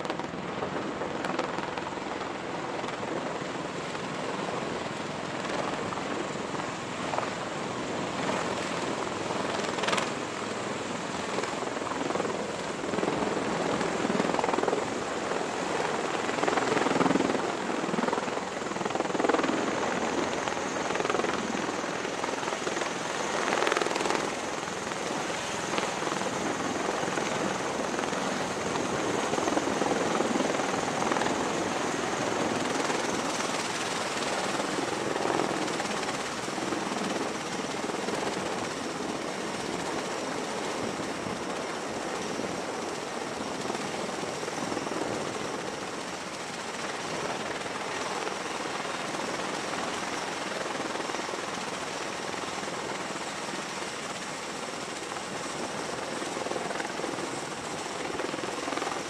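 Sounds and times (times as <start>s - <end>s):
dense rotor noise: 0.0s - 48.7s.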